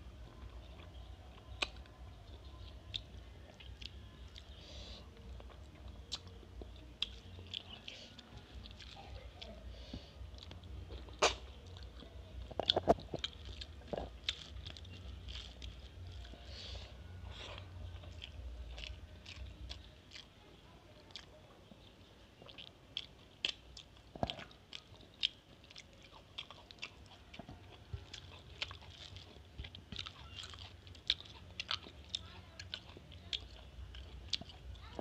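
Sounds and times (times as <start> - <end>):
person chewing food: 0.2 - 20.3, 21.0 - 21.3, 22.4 - 35.0.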